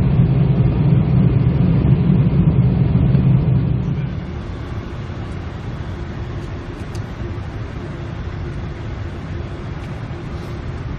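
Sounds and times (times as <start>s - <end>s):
cockpit airflow and engine rushing: 0.0s - 10.9s.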